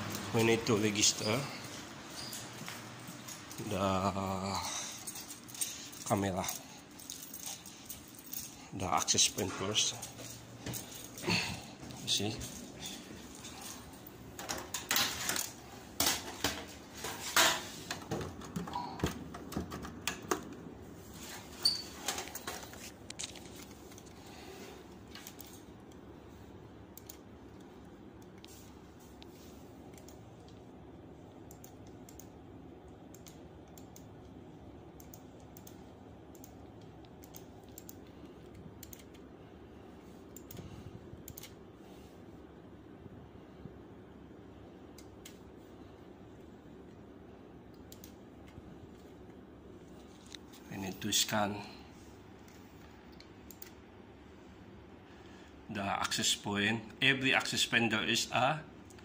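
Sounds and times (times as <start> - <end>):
cooling fan hum: 0.0 - 59.0.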